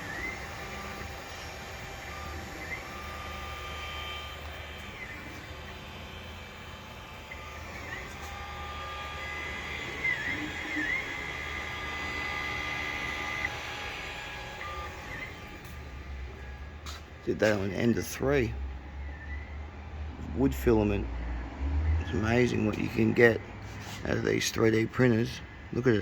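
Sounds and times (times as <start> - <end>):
stepper motor tones: 0.0 - 26.0.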